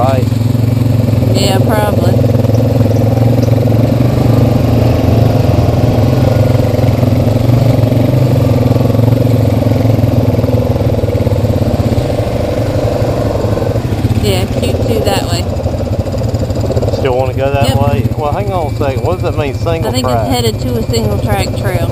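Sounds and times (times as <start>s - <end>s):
quad engine running: 0.0s - 21.9s.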